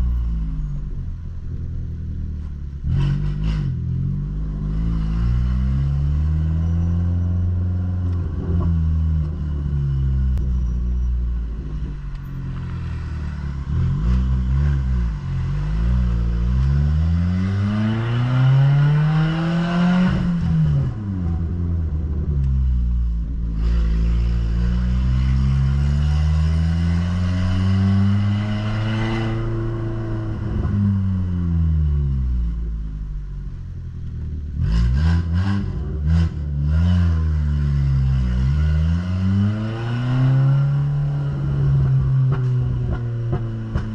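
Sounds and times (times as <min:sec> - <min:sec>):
car exhaust rumbling: 0:00.0 - 0:43.9.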